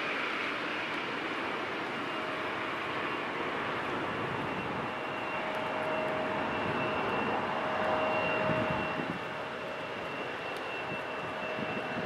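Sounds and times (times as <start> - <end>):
faint engine whines: 0.0 - 12.0
jet engines rushing: 0.0 - 12.0.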